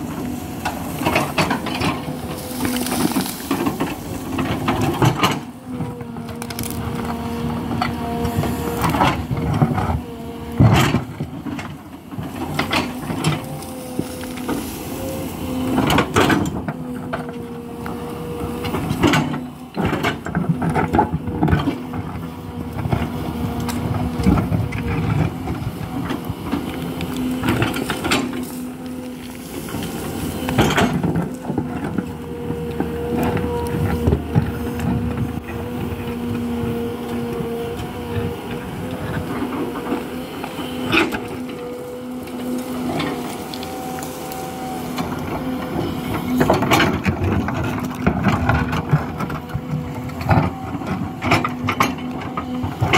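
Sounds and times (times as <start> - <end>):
excavator engine and hydraulics humming: 0.0 - 52.9.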